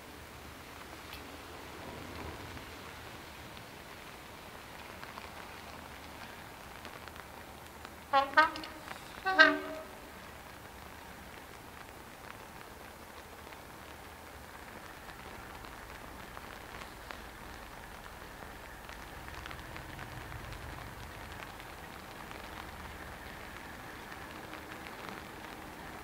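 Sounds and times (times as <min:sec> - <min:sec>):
faint low rumble: 0:00.0 - 0:26.0
steady rain falling: 0:00.0 - 0:26.0.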